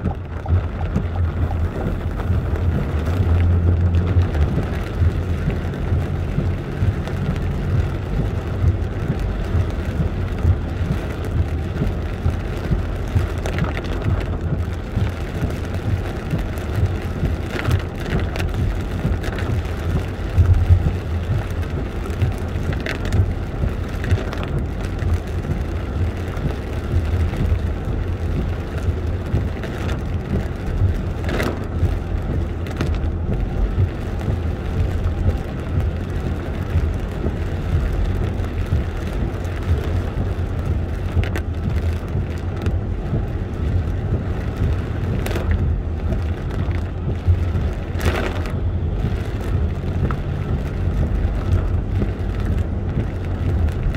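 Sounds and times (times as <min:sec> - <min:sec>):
low road rumble inside car: 0:00.0 - 0:53.9
rain and wet tyres hissing: 0:00.0 - 0:53.9.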